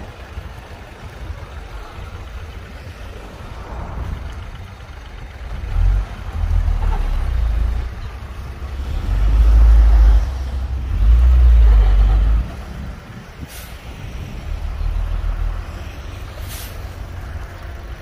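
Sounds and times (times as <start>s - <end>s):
heavy machinery engine rumble: 0.0s - 18.0s.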